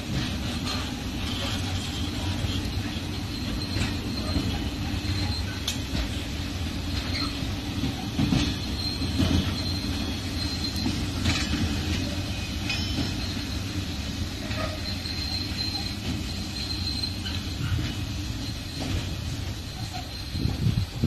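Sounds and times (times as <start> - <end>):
train wheels rumbling on rails: 0.0 - 21.0
high wheel squeal: 0.1 - 21.0.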